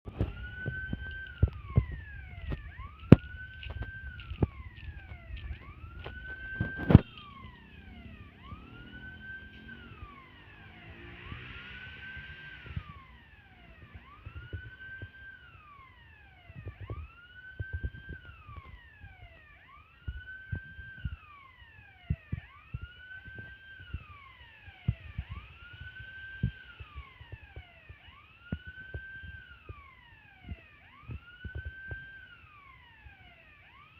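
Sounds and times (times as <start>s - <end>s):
electronic warning siren wailing: 0.1s - 33.9s.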